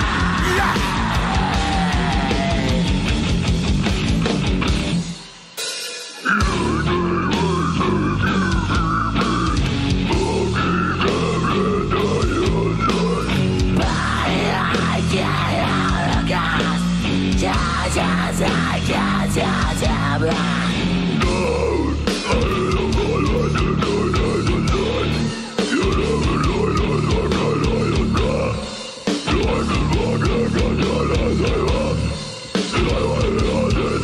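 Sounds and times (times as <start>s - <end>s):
singer vocals: 0.0s - 3.5s, 6.2s - 34.0s
distorted guitar: 0.0s - 34.0s
drums: 0.0s - 34.0s
wavering high lead guitar line: 6.1s - 34.0s.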